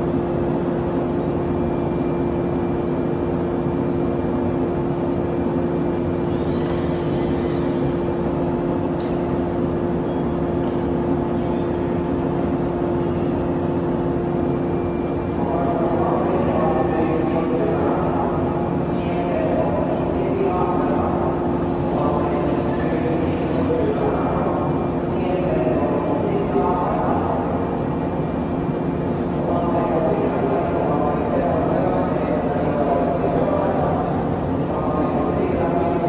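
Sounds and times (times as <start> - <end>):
electric train equipment humming: 0.0 - 36.0.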